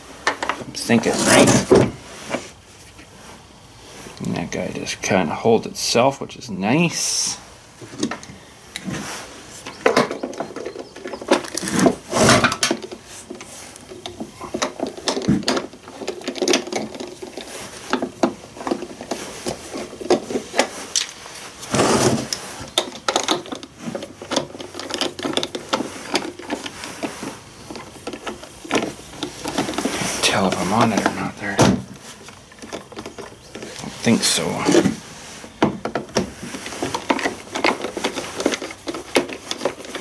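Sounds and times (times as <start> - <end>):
plastic scraping on workbench: 0.4 - 3.4, 7.8 - 40.0.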